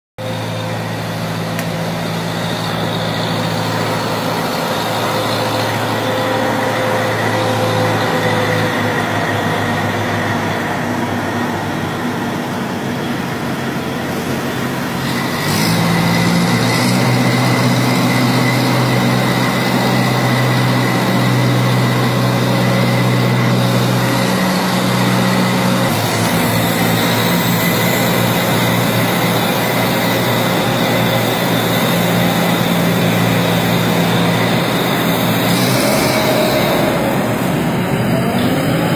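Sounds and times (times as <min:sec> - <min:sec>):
diesel engine running from cab: 0:00.2 - 0:38.9.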